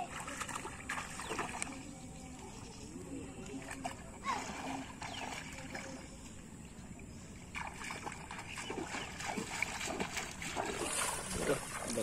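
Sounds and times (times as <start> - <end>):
feet wading through water: 0.0 - 12.0.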